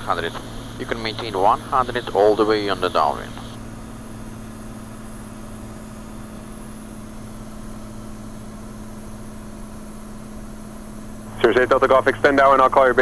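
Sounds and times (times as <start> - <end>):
aircraft engine droning in cabin: 0.0 - 13.0.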